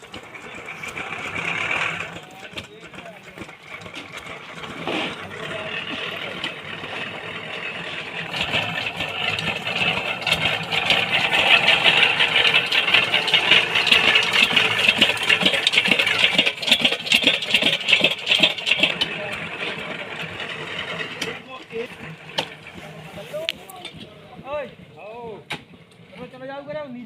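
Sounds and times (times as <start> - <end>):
machine motor rattling: 0.0 - 24.6.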